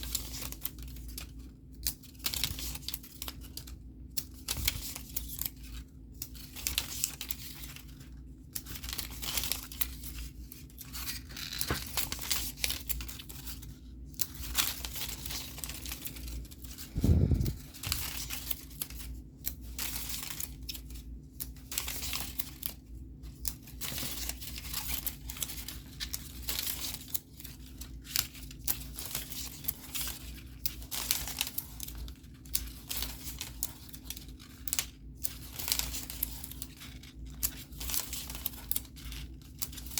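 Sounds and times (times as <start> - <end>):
paper pages rustling: 0.0 - 39.9.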